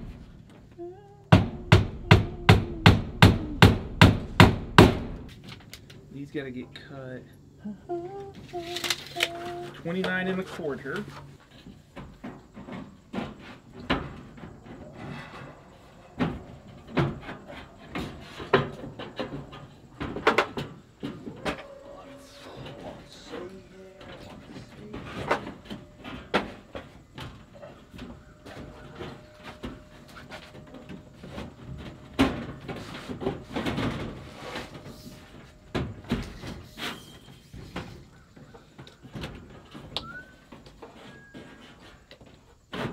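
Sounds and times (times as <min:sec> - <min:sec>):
construction materials knocking: 0:00.0 - 0:05.3, 0:08.6 - 0:42.9
thuds: 0:00.0 - 0:05.3, 0:12.0 - 0:42.9
scraping: 0:08.1 - 0:42.9.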